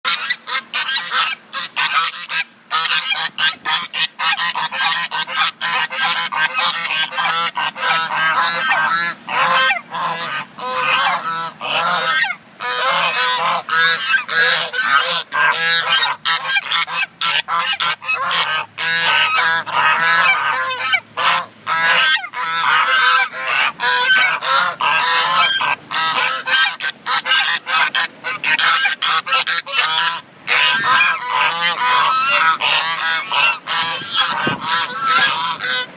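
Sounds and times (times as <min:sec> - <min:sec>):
geese honking: 0:00.0 - 0:35.9.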